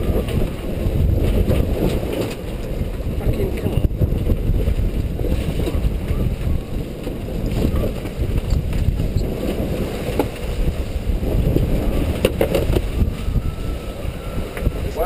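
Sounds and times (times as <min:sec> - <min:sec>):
water noise: 0:00.0 - 0:15.0
wind rumbling on microphone: 0:00.0 - 0:15.0.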